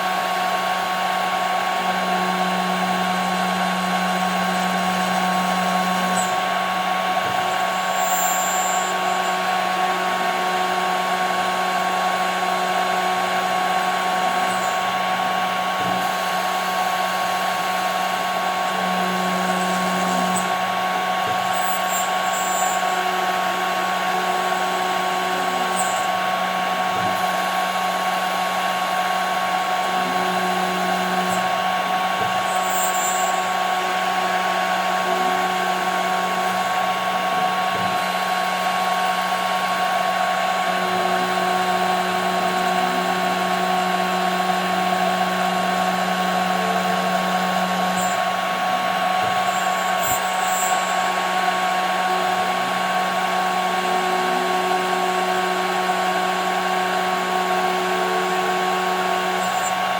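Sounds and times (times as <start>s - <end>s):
router cutting plastic: 0.0s - 59.9s
router spindle motor whine: 0.0s - 59.9s.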